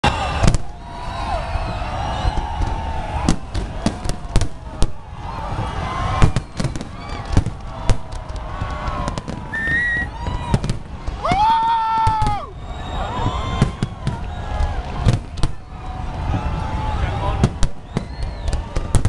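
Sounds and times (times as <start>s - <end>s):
crowd voices: 0.0s - 19.0s
fireworks crackle: 0.0s - 19.0s.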